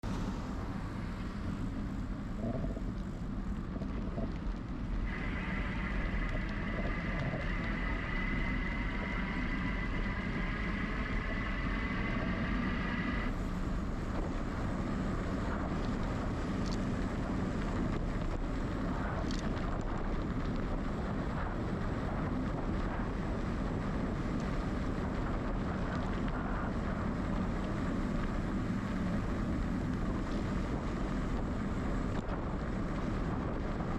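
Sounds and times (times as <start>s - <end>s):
bicycle riding rumble: 0.0s - 33.9s
high steady whine: 0.0s - 33.9s
wind buffeting microphone: 0.0s - 33.9s.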